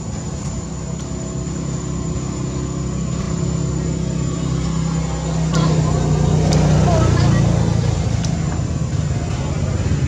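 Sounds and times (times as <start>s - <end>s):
motor engine droning: 0.0s - 10.0s.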